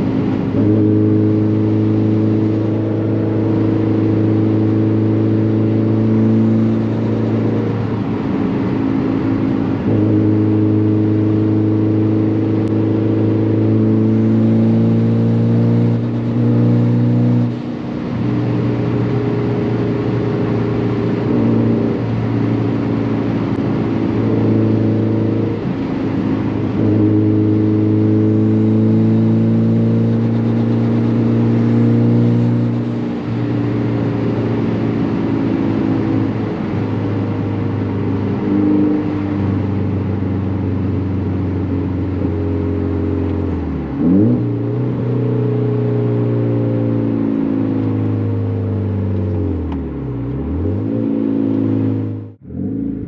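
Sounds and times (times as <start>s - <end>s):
car engine droning in cabin: 0.0s - 53.0s.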